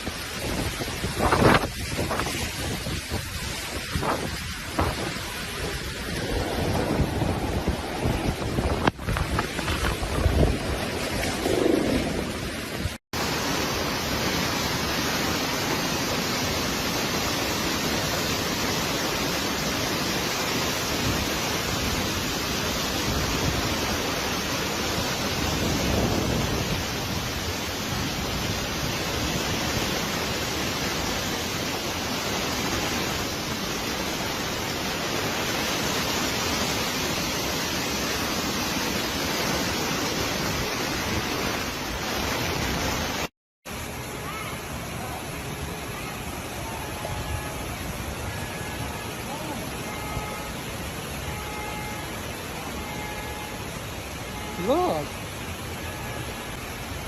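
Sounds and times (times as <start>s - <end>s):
storm water rushing: 0.0s - 57.0s.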